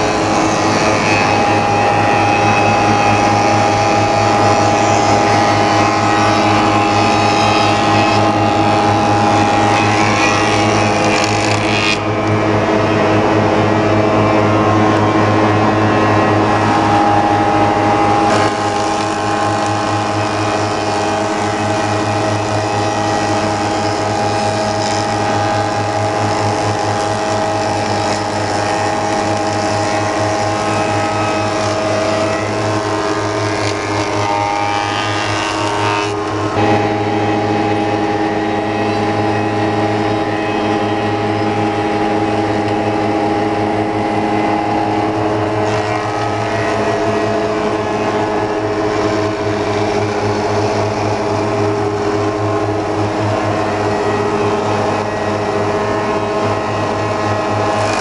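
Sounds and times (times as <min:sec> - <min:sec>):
boards being planed: 0:00.0 - 0:58.0
planer machine humming: 0:00.0 - 0:58.0.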